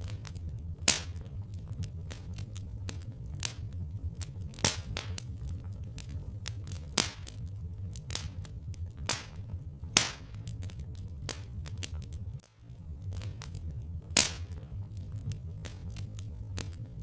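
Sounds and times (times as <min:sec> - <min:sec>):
steady low rumble: 0:00.0 - 0:17.0
wood fire crackling: 0:00.0 - 0:17.0.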